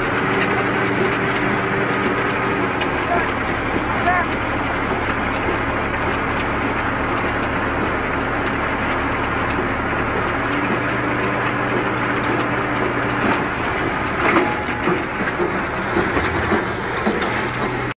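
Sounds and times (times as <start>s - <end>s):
baler mechanical rush: 0.0s - 18.0s
tractor engine humming: 0.0s - 18.0s
sharp ticks: 0.1s - 3.4s, 4.0s - 4.4s, 5.0s - 6.5s, 7.1s - 8.6s, 9.2s - 9.6s, 10.2s - 17.6s.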